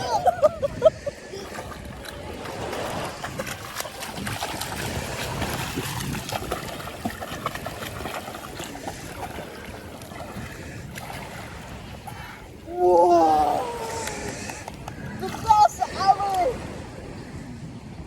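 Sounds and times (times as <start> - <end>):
sea water sloshing and splashing: 0.0 - 18.0.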